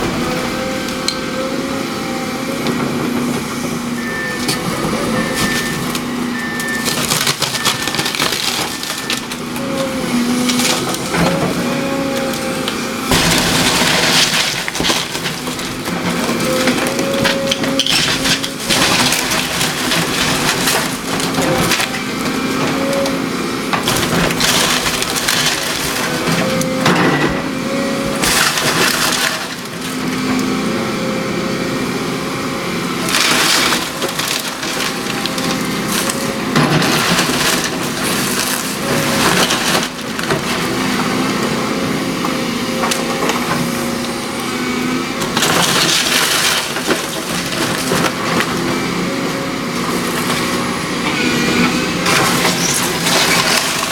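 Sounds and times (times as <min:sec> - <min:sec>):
heavy machine engine drone: 0:00.0 - 0:53.9
wood splintering and crashing: 0:00.0 - 0:53.9.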